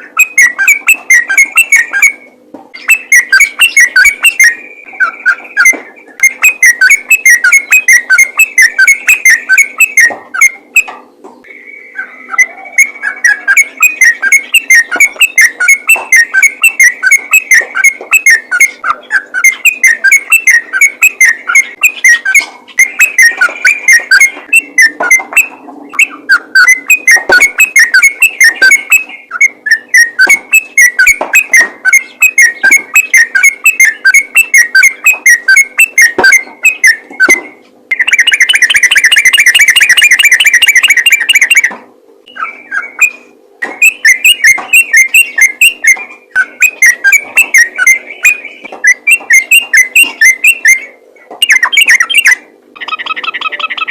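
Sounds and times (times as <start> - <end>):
bird singing rapid whistled notes: 0.0 - 53.9.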